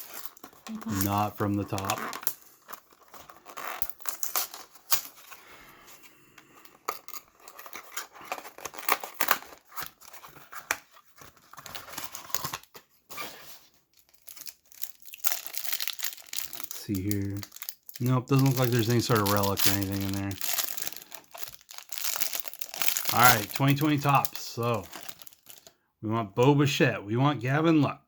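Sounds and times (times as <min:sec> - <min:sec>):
cardboard and plastic wrap tearing: 0:00.0 - 0:05.4, 0:06.8 - 0:25.7.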